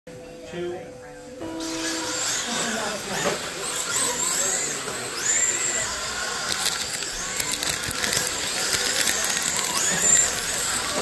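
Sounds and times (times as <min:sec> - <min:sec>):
rc car motors whining: 0:01.5 - 0:11.0.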